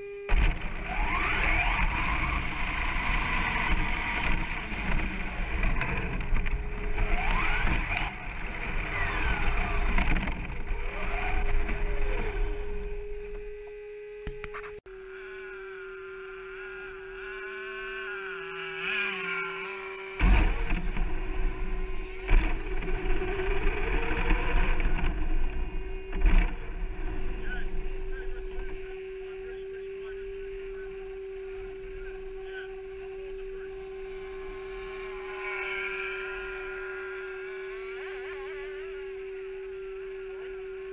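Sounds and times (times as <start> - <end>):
electric motor whine: 0.0 - 40.9
wind: 0.0 - 40.9.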